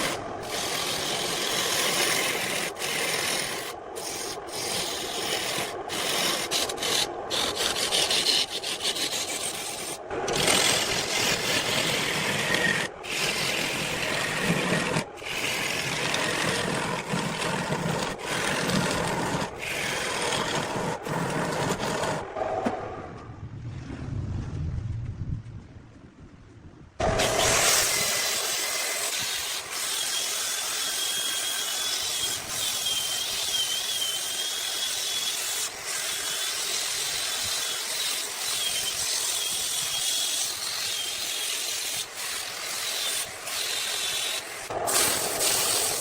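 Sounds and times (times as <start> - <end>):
lathe tool scraping wood: 0.0 - 22.3, 27.0 - 46.0.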